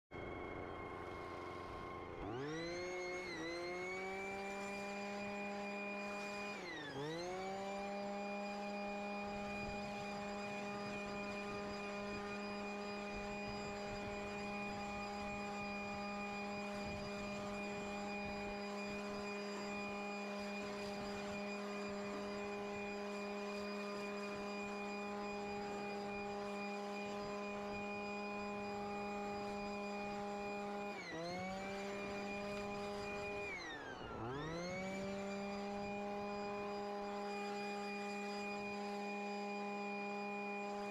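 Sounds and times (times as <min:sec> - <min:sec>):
leaf blower whining: 0:00.2 - 0:40.9.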